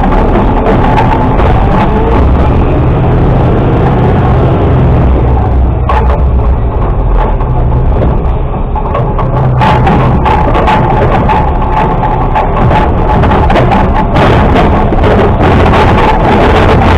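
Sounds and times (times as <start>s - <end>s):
truck diesel engine running: 0.0s - 16.9s.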